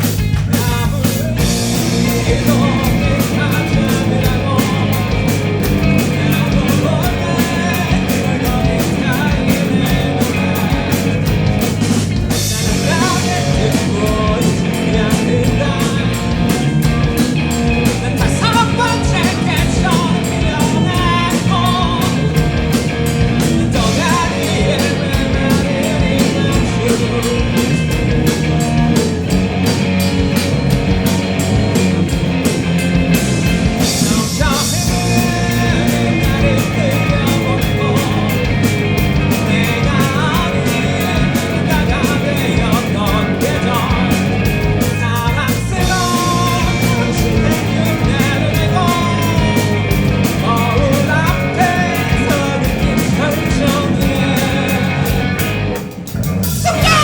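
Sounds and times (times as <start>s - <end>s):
drum kit beat: 0.0s - 57.0s
live rock band: 0.0s - 57.0s
person singing: 0.4s - 11.4s, 12.5s - 22.6s, 23.3s - 29.2s, 33.7s - 55.3s, 56.6s - 57.0s.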